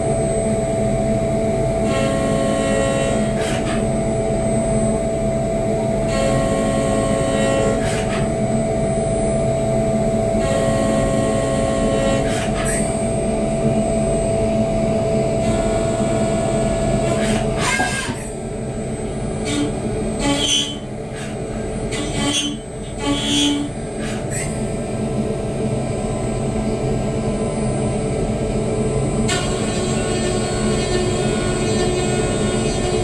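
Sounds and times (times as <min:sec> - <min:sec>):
milling machine humming: 0:00.0 - 0:33.0.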